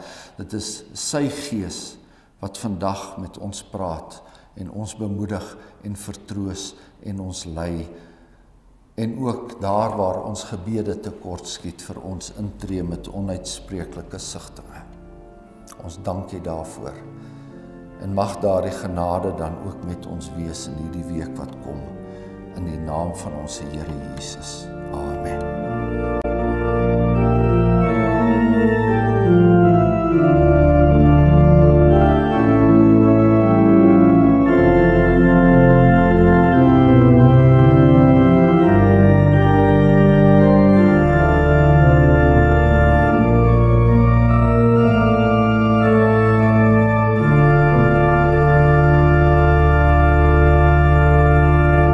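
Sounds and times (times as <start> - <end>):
organ playing slow chords: 0.0 - 51.9.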